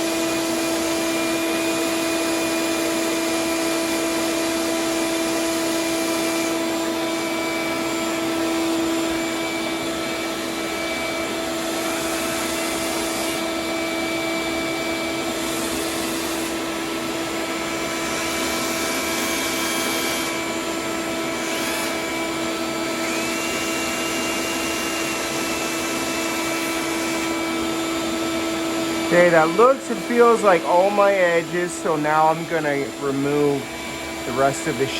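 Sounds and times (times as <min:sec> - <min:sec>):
vacuum whining: 0:00.0 - 0:34.9.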